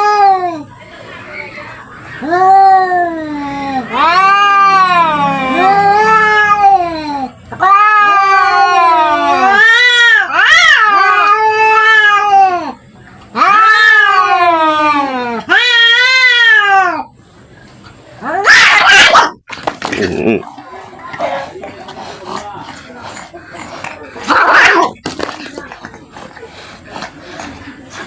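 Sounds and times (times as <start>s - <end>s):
cats yowling: 0.0s - 0.7s, 2.0s - 17.2s, 17.8s - 28.0s.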